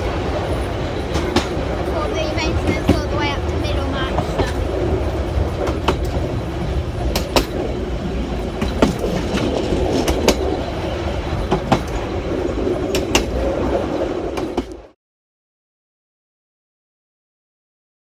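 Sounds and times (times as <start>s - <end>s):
wheels clicking over rail joints: 0.0s - 14.9s
train wheels rumbling on rails: 0.0s - 15.0s.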